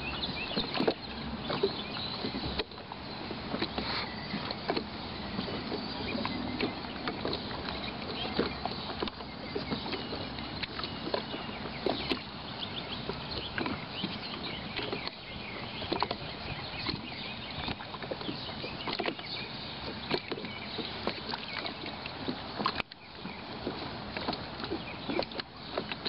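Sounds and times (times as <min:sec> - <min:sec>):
small waves lapping: 0:00.0 - 0:26.0.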